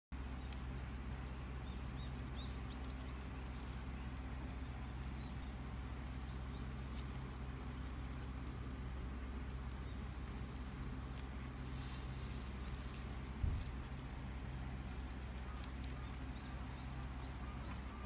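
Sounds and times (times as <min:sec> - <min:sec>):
low motor hum: 0:00.1 - 0:18.0.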